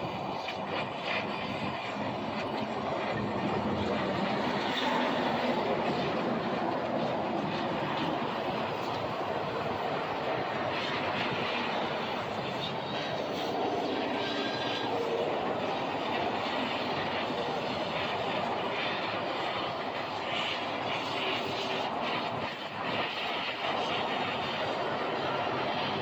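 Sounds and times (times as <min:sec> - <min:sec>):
rushing engine-like noise: 0:00.0 - 0:26.0.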